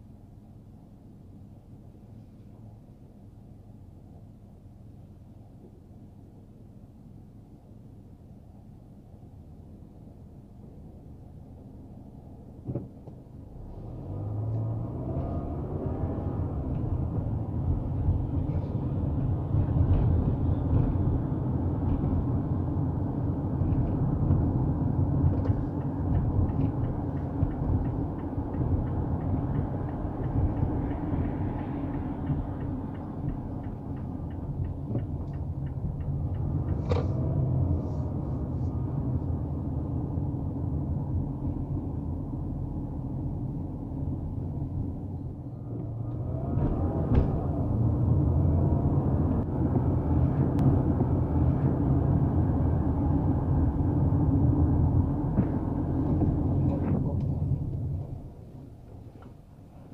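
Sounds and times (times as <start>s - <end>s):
car engine and tyres rumble: 0.0s - 59.9s.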